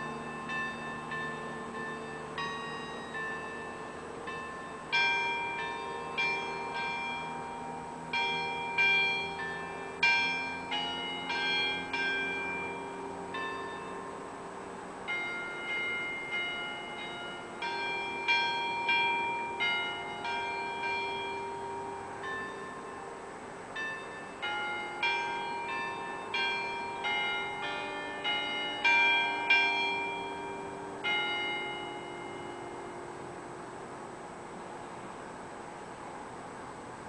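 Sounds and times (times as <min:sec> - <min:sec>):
church bells ringing: 0:00.0 - 0:36.3.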